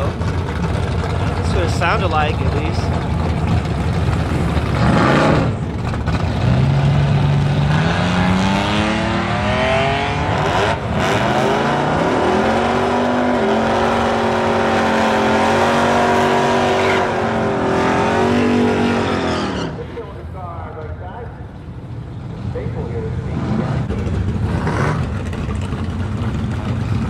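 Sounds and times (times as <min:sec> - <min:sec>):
drag racing car accelerating: 0:00.0 - 0:20.2, 0:22.3 - 0:27.0.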